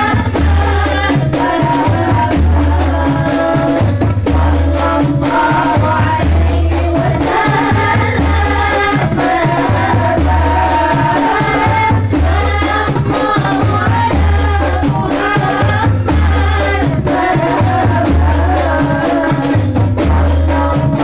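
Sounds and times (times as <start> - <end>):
hand-struck frame drums: 0.0 - 21.0
woman singing into microphone: 0.0 - 21.0.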